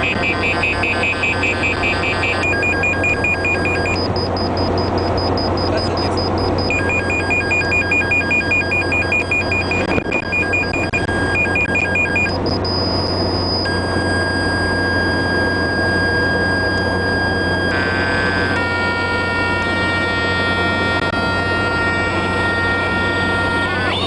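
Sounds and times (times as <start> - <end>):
electronic beeping: 0.0 - 19.8
held electronic tones: 0.0 - 24.0
vehicle drone: 0.0 - 24.0.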